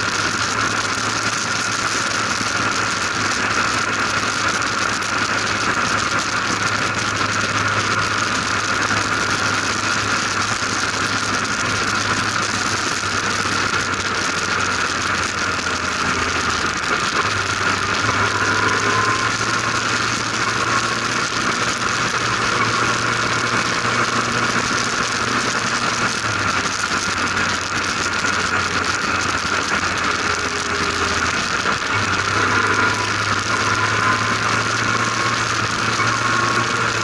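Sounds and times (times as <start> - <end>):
race car engine running: 0.0 - 37.0.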